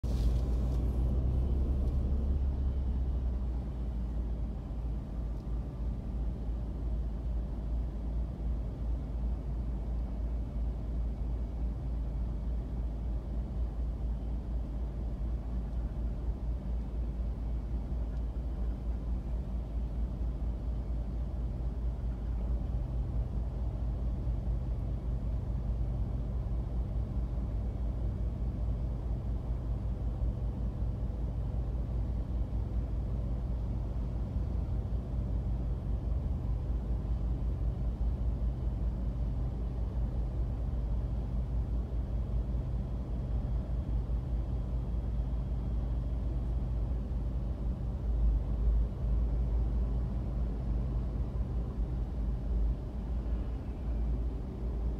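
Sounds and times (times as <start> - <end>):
idling vehicles rumbling: 0.0 - 54.9.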